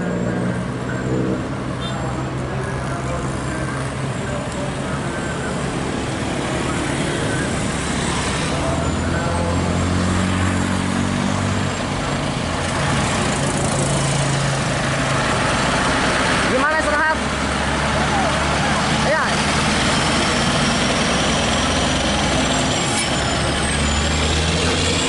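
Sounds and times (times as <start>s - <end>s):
truck diesel engine under load: 0.0s - 25.0s.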